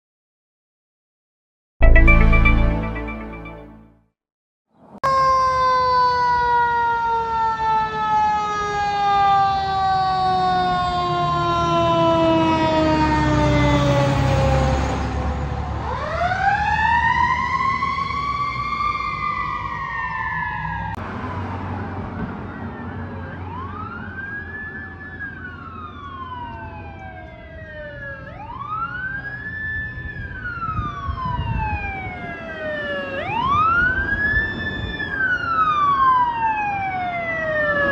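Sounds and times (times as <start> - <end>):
fire engine siren: 5.0 - 37.9.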